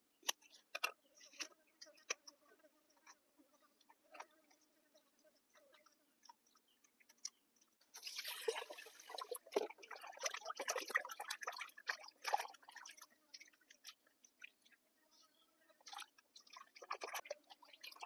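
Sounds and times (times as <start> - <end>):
food squelching and splashing in water: 0.0 - 18.0.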